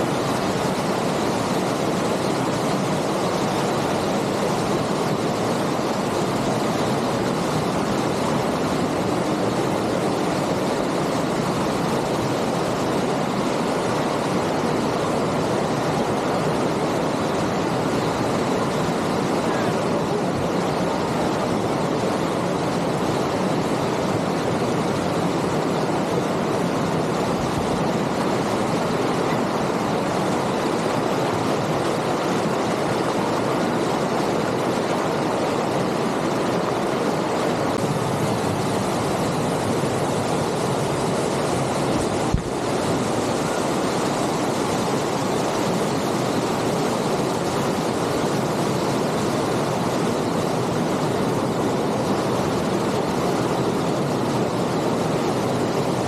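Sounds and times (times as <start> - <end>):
waterfall rushing water: 0.0 - 56.0.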